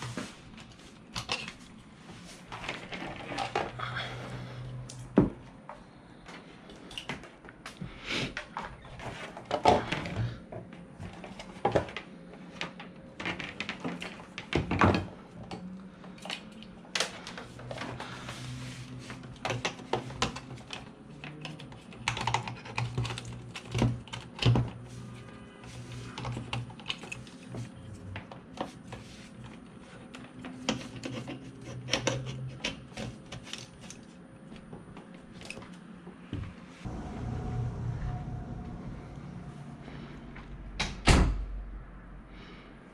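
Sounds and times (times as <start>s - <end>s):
low intermittent hum: 0.0s - 42.9s.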